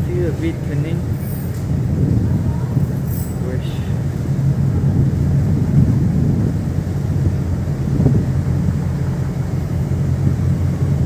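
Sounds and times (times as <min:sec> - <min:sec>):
ferry diesel engines rumbling: 0:00.0 - 0:11.0.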